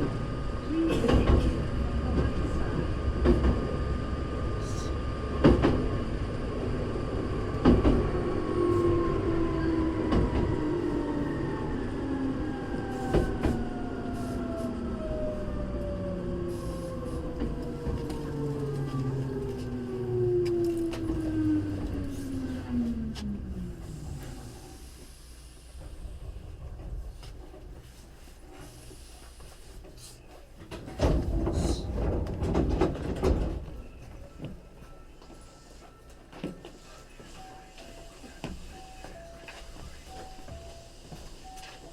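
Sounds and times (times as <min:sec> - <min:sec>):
train sliding doors opening: 0:00.0 - 0:41.9.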